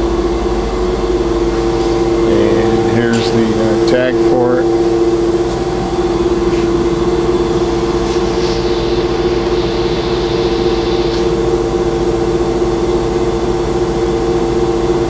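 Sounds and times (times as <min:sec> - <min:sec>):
industrial machinery humming: 0:00.0 - 0:15.0.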